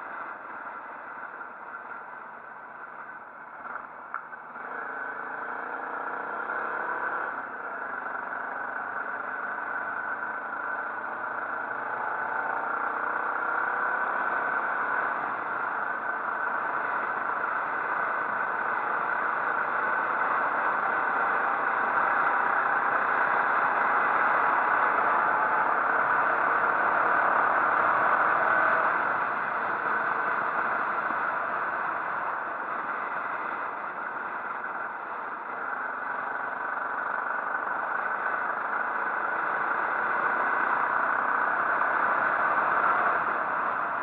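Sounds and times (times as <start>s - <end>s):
motorcycle engine running: 0.0s - 44.0s
steady rushing noise: 0.0s - 44.0s.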